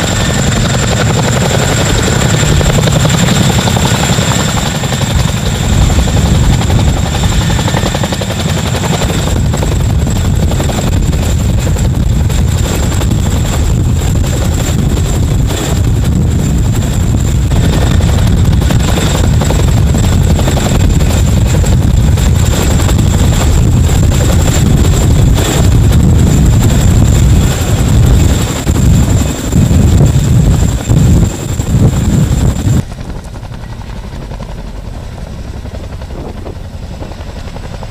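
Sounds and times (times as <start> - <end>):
helicopter rotor rumble: 0.0 - 37.9
high turbine whine: 0.0 - 37.9.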